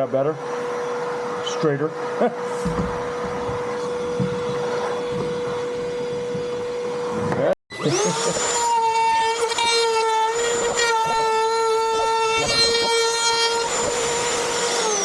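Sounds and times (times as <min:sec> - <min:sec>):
shop vacuum humming: 0:00.0 - 0:15.0
power tool motor whining: 0:00.4 - 0:15.0.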